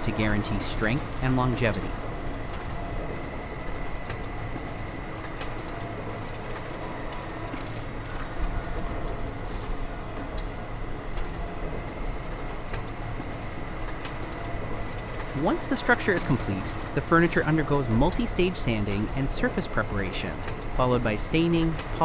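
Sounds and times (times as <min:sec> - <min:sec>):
workshop machinery humming: 0:00.0 - 0:22.0.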